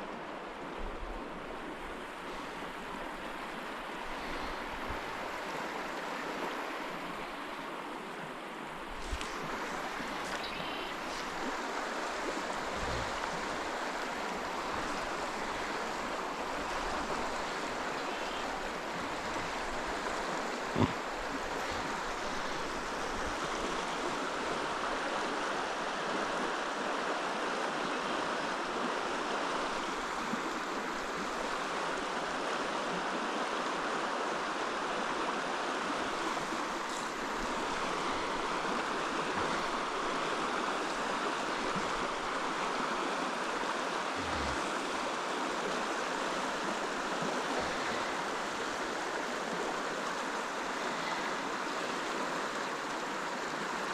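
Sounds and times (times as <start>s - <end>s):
stream water flowing over rocks: 0.0s - 53.9s.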